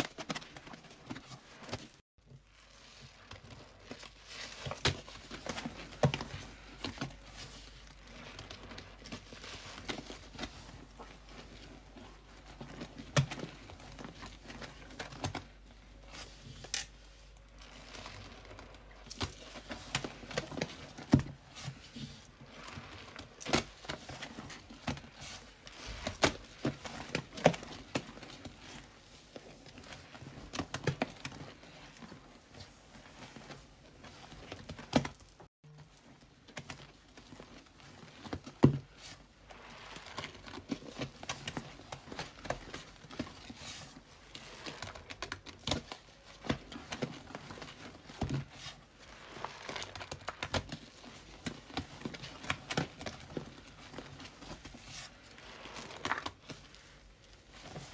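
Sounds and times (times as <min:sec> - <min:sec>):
sponge squishing and scrubbing: 0:00.5 - 0:15.1, 0:17.5 - 0:34.5, 0:38.9 - 0:44.9, 0:46.0 - 0:54.0, 0:55.0 - 0:57.7.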